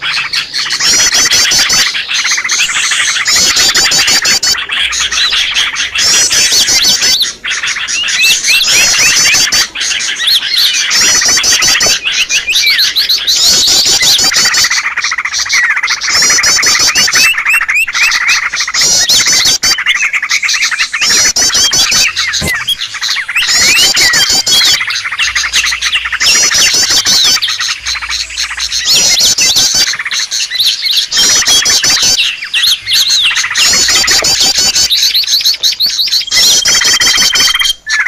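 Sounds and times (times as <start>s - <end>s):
fast high bird trill: 0.0s - 38.0s
songbirds chirping: 0.0s - 38.0s.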